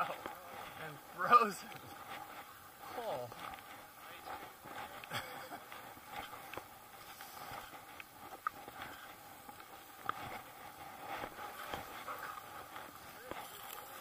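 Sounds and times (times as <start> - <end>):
faint hiss: 0.0 - 14.0
ski poles planting: 0.0 - 14.0
skis crunching through snow: 0.0 - 14.0.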